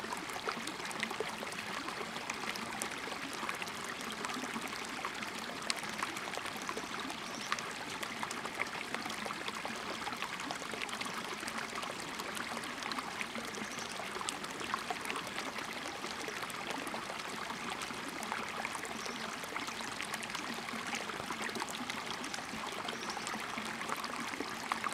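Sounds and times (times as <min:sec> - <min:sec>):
stream babbling over stones: 0:00.0 - 0:24.9.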